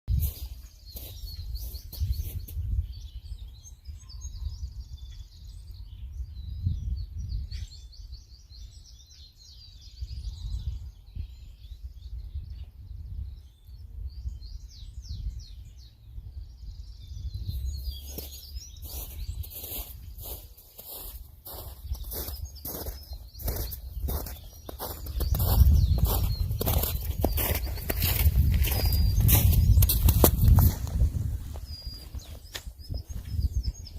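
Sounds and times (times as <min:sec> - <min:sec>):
songbirds singing: 0:00.1 - 0:33.9
wind rumble on microphone: 0:00.1 - 0:33.9.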